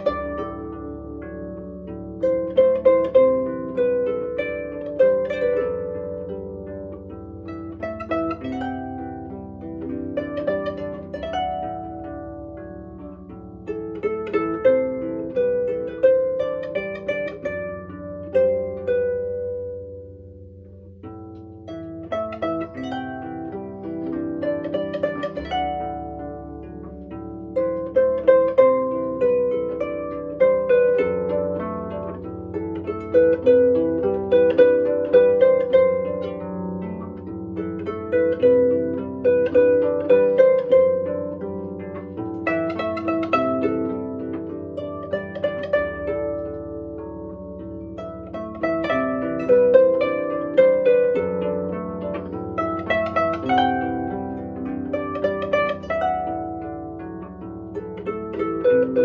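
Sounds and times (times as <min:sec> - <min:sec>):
harp playing: 0:00.0 - 0:59.0.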